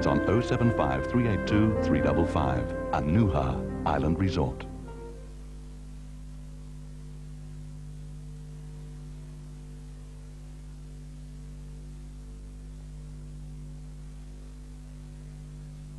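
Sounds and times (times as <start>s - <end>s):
electrical hum: 0.0s - 15.9s
faint hiss: 0.0s - 15.9s.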